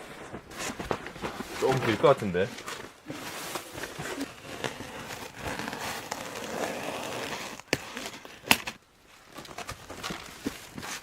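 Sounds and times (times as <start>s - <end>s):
objects rustling: 0.0s - 11.0s.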